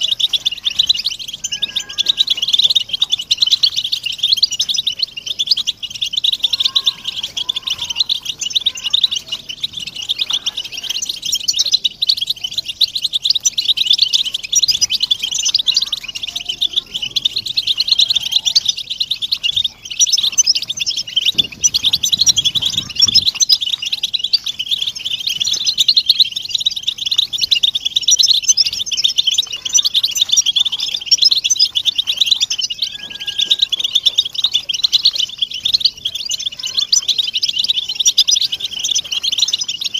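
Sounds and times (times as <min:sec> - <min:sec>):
flock of finches twittering: 0:00.0 - 0:39.9.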